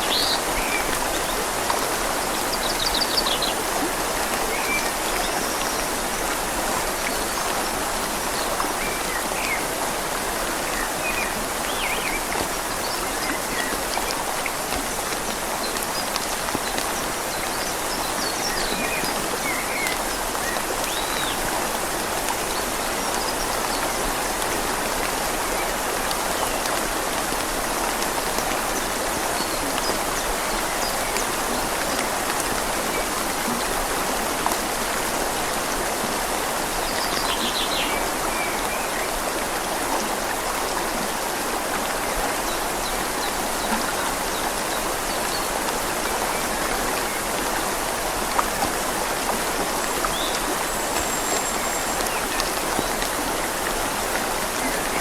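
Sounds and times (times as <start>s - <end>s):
flowing river: 0.0s - 55.0s
rain falling on leaves: 0.0s - 55.0s.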